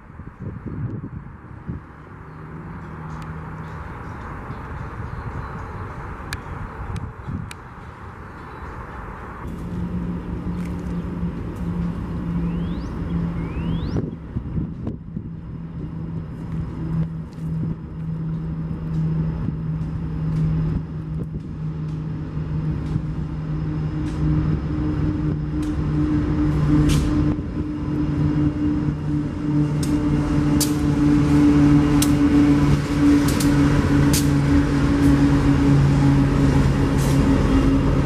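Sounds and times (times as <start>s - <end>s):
locomotive engine drone: 0.0s - 38.0s.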